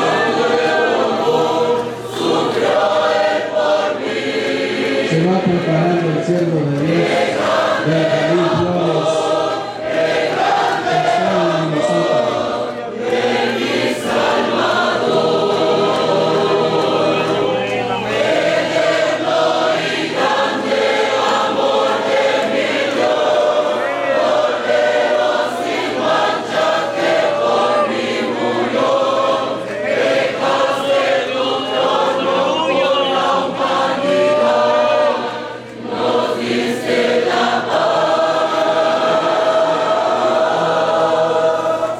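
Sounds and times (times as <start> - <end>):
choir singing a hymn: 0.0 - 41.9.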